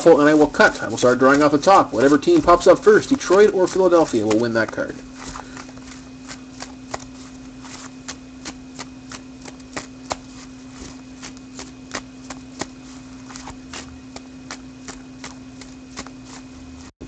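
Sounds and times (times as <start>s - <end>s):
cards being shuffled: 0.0s - 16.9s.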